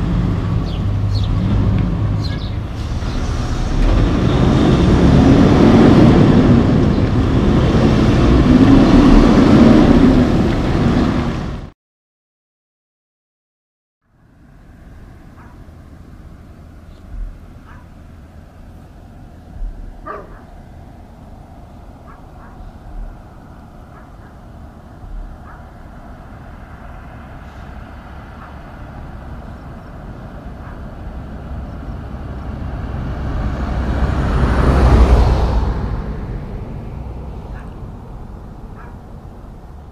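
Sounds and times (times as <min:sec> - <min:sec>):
diesel engine running: 0:00.0 - 0:11.7, 0:14.2 - 0:39.9
tyre and road noise: 0:00.0 - 0:11.7, 0:14.0 - 0:39.9.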